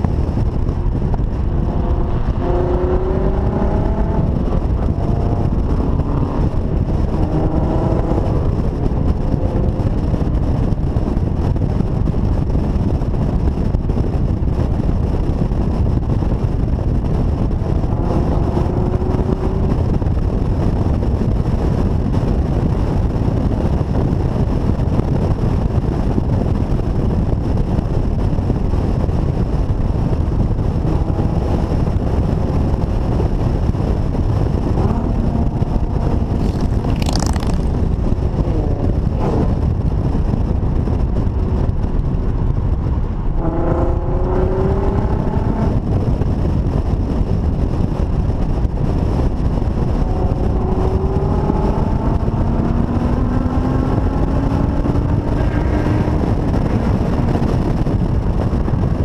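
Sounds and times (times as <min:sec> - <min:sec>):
car engine accelerating: 0:00.0 - 0:59.0
wind noise on microphone: 0:00.0 - 0:59.0.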